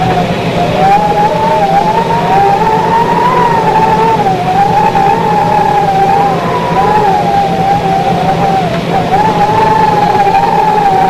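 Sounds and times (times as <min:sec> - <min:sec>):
steady hiss and low hum: 0:00.0 - 0:11.0
wavering electronic siren tone: 0:00.0 - 0:11.0.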